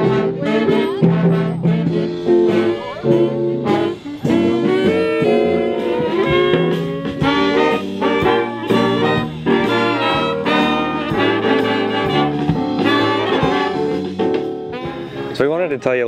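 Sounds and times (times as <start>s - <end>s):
big band playing swing jazz: 0.0s - 16.0s.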